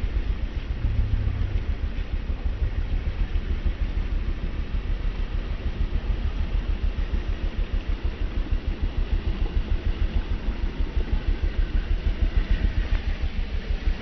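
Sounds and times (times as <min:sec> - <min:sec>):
steady hiss: 0:00.0 - 0:14.0
vehicle engine throbbing: 0:00.0 - 0:14.0.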